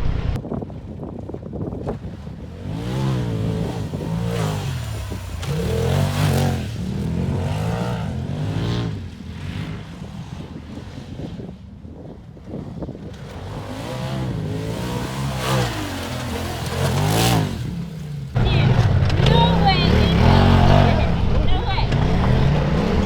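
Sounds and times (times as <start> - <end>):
off-road vehicle engine revving: 1.8 - 11.0, 12.5 - 23.0.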